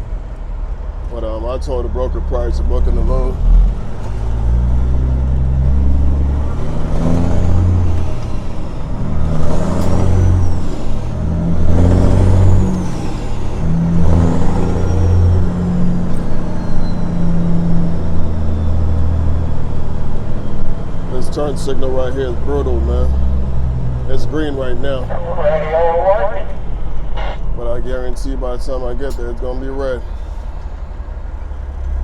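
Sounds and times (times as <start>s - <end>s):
diesel truck engine accelerating: 0.0s - 32.0s.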